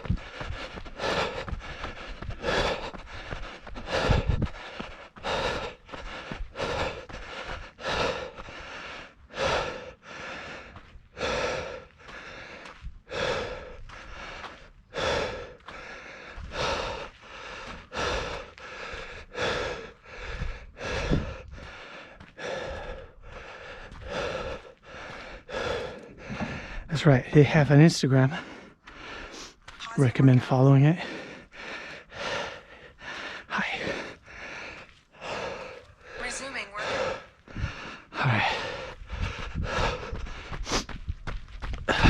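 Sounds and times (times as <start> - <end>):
person breathing hard: 0.0 - 26.9, 28.2 - 29.7, 30.9 - 42.0.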